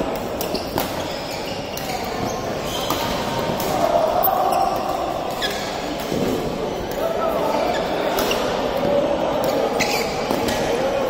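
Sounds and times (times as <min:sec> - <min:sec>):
rackets hitting shuttlecock: 0:00.0 - 0:07.0, 0:08.0 - 0:11.0
shoes squeaking on court floor: 0:00.4 - 0:08.6, 0:09.4 - 0:10.8.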